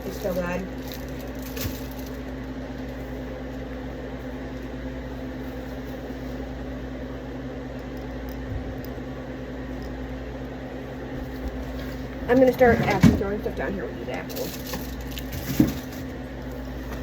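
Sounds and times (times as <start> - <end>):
appliance or fan humming: 0.0 - 17.0.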